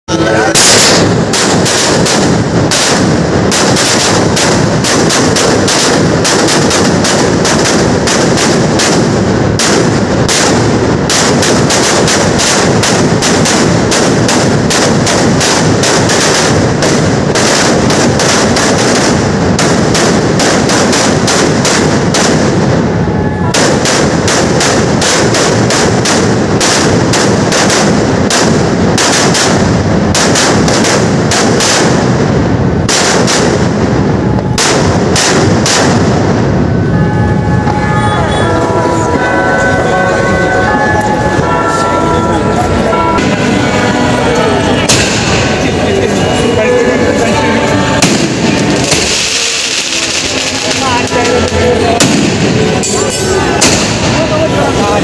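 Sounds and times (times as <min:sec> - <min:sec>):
firecrackers exploding: 0:00.1 - 0:55.0.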